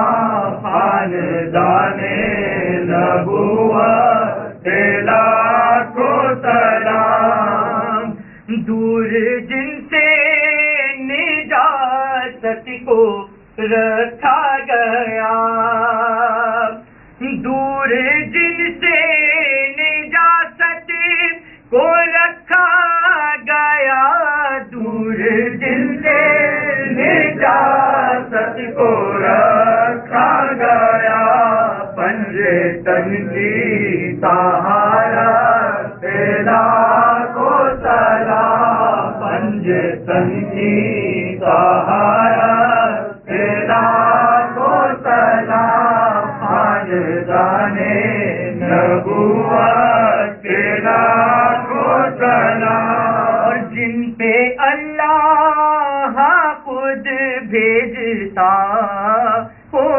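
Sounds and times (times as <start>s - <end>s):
man chanting: 0.0s - 59.9s
men singing in chorus: 0.0s - 59.9s.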